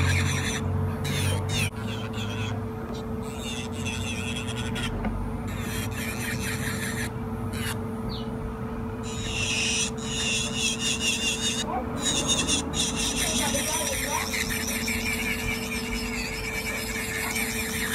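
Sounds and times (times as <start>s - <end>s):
electric nail drill whining: 0.0s - 7.9s, 9.0s - 17.9s.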